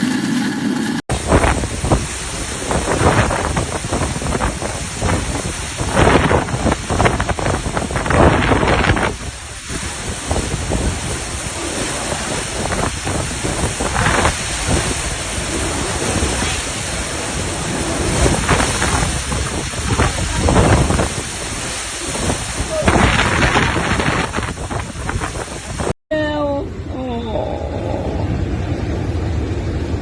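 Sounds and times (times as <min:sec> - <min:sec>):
hurricane wind: 0:00.0 - 0:30.0
wind buffeting microphone: 0:01.1 - 0:26.0
heavy rain: 0:01.1 - 0:30.0.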